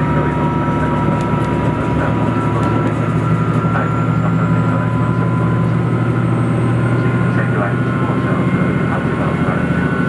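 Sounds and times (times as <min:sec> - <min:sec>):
low engine hum: 0:00.0 - 0:10.0
steady whining tones: 0:00.0 - 0:10.0.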